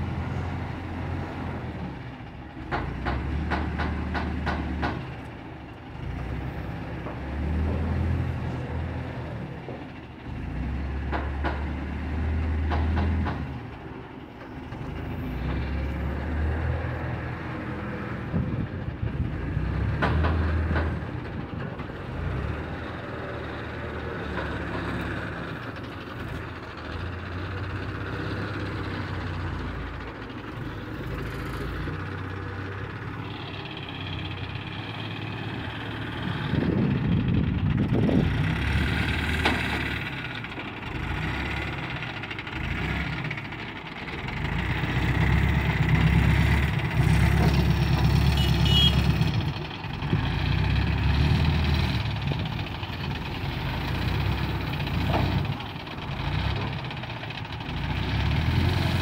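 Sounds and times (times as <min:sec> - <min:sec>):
crane diesel engine running: 0:00.0 - 0:59.0.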